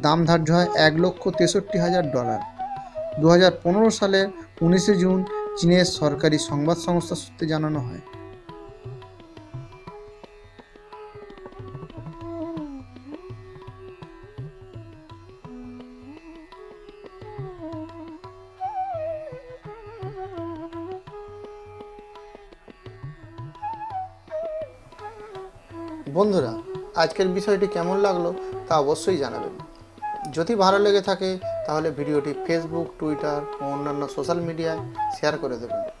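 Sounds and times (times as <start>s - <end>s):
indian classical melody: 0.0s - 36.0s
light percussion beat: 0.0s - 36.0s.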